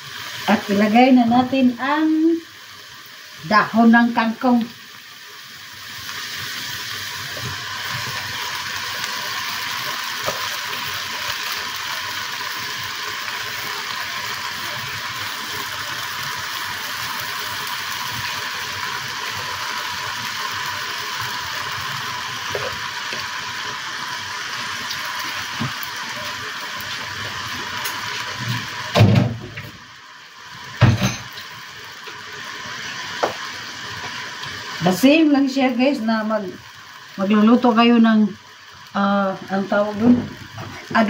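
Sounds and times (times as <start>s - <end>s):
leaves sizzling in a frying pan: 0.0s - 41.0s.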